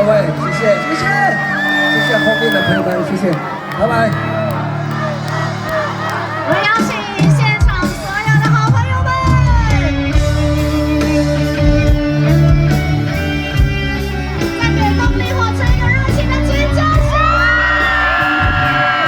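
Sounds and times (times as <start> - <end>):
audience shouting and yelling: 0.0 - 19.0
live rock band playing: 0.0 - 19.0.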